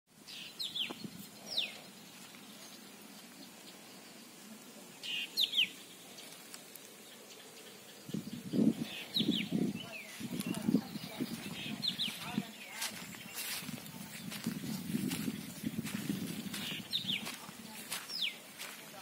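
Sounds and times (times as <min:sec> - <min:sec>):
birds calling: 0:00.1 - 0:19.0
faint outdoor background: 0:00.1 - 0:19.0.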